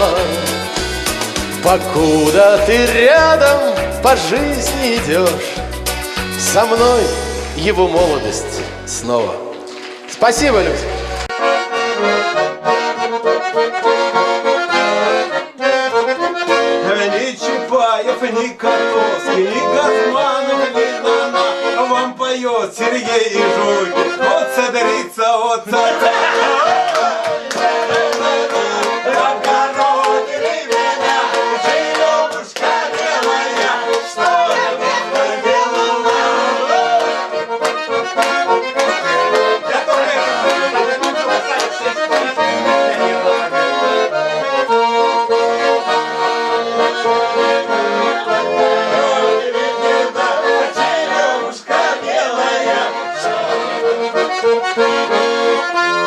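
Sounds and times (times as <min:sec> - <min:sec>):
accordion playing folk melody: 0:00.0 - 0:56.0.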